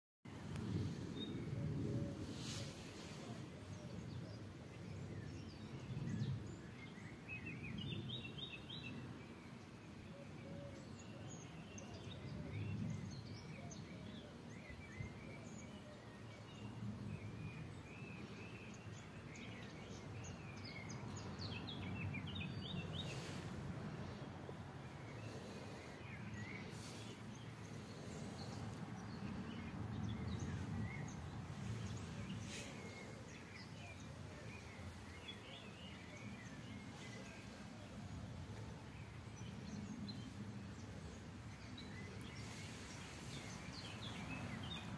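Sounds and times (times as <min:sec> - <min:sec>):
small birds chirping: 0:00.5 - 0:44.9.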